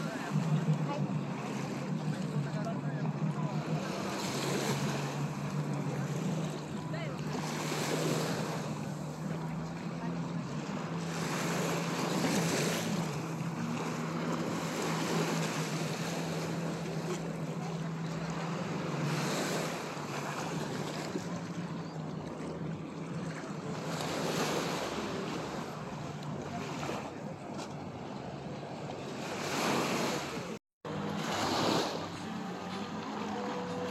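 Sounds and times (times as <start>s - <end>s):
jet skis droning: 0.0s - 33.9s
small waves washing ashore: 0.0s - 33.9s.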